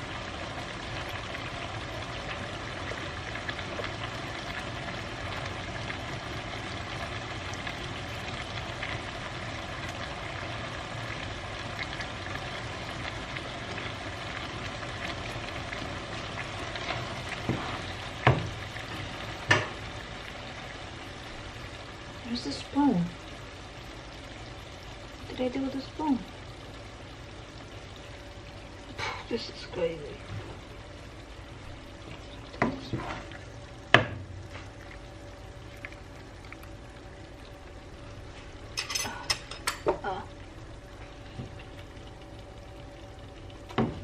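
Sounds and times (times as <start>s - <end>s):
food sizzling in a pan: 0.0s - 44.0s.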